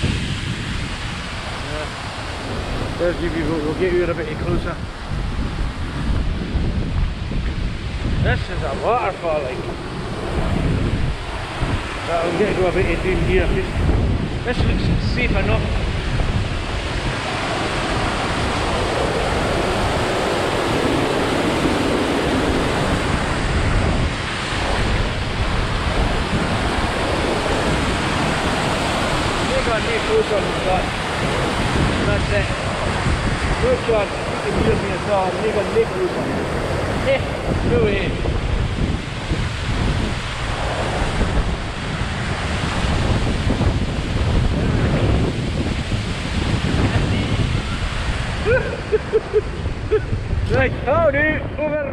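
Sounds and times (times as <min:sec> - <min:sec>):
waterfall rushing: 0:00.0 - 0:50.5
wind buffeting microphone: 0:00.0 - 0:51.9.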